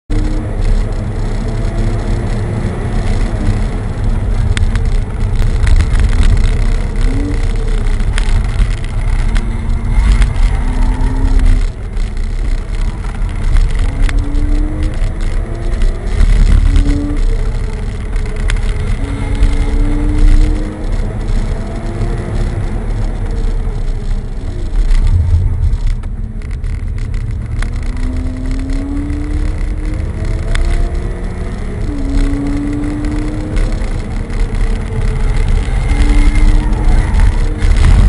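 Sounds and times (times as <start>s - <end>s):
road and wind rumble: 0.0s - 38.0s
car engine revving: 0.1s - 38.0s.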